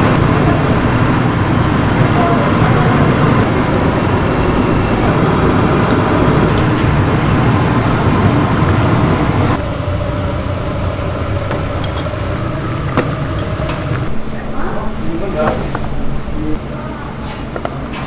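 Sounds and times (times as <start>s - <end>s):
gas burners rushing: 0.0s - 18.0s.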